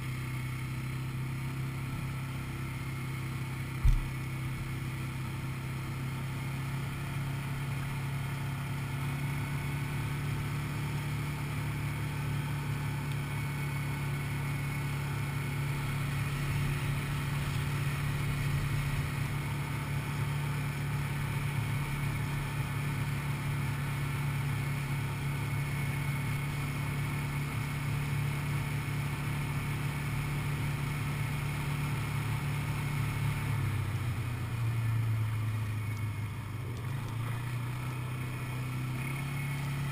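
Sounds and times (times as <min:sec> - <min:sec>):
atv engine cruising: 0:00.0 - 0:39.9.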